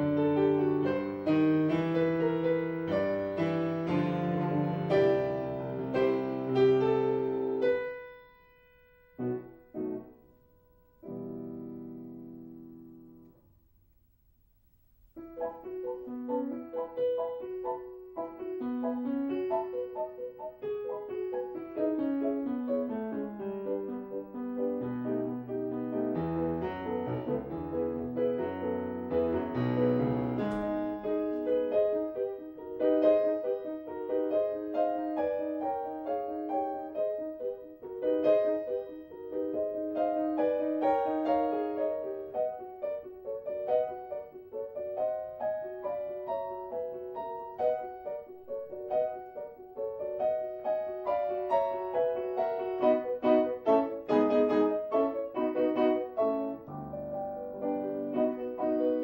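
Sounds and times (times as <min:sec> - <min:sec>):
piano melody: 0:00.0 - 0:13.7, 0:14.8 - 0:59.0.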